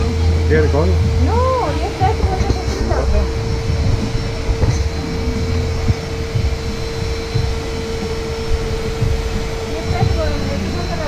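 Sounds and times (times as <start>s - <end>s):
constant hum: 0.0s - 11.0s
low buffeting: 0.0s - 11.0s
vehicle rumble: 0.0s - 11.0s.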